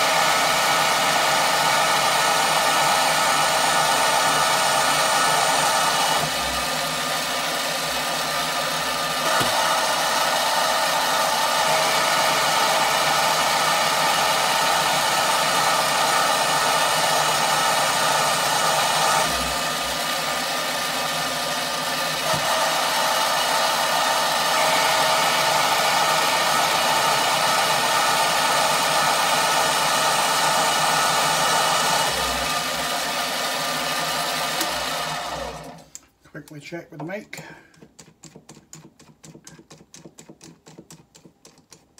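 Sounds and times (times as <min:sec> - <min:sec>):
lathe humming: 0:00.0 - 0:35.9
lathe tool cutting: 0:00.0 - 0:35.9.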